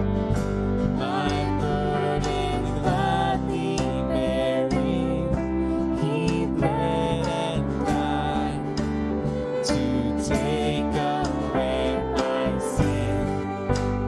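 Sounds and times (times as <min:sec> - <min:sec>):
slow hymn by band with guitar: 0:00.0 - 0:14.0.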